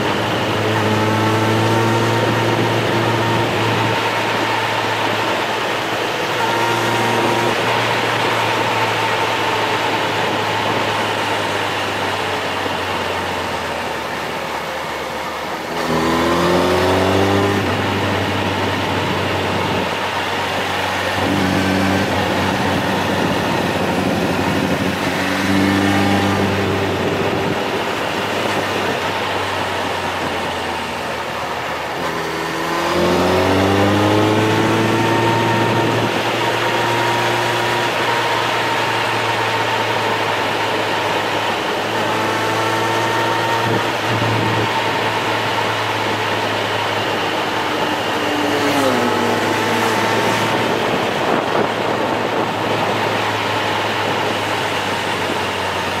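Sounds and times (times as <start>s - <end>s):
road and wind noise: 0.0s - 56.0s
vehicle engine running: 0.0s - 56.0s.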